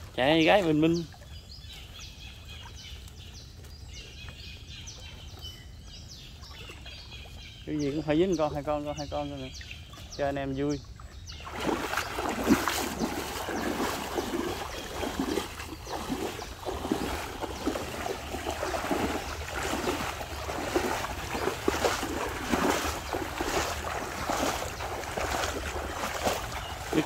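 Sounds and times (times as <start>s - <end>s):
wading and splashing through water: 0.0s - 27.0s.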